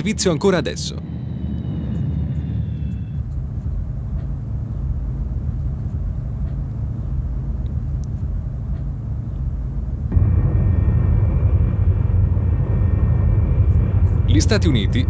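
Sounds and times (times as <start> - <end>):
high steady whine: 0.0 - 15.0
steady low rumble: 0.0 - 15.0.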